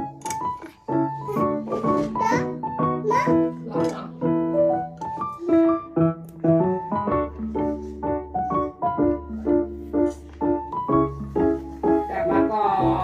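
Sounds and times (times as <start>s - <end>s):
quick piano tune with bass: 0.0s - 13.0s.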